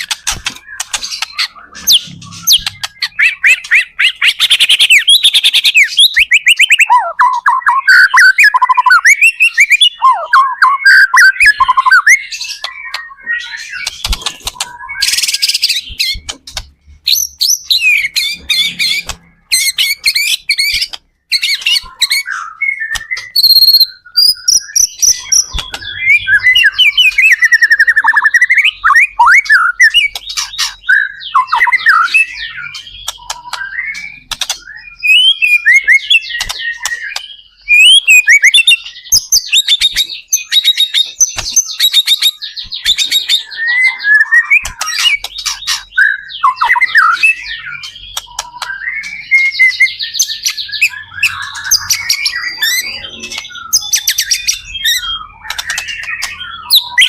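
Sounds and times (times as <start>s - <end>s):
songbird singing varied whistled song: 0.0s - 57.0s.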